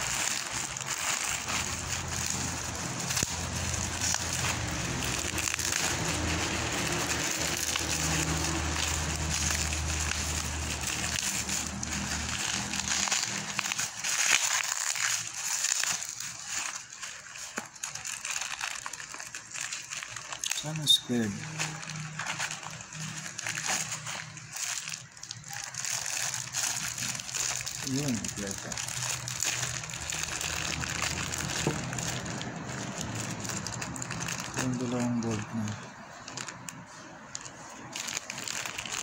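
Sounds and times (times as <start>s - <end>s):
package being torn open: 0.0s - 39.0s
plastic and bubble wrap crinkling: 0.0s - 39.0s.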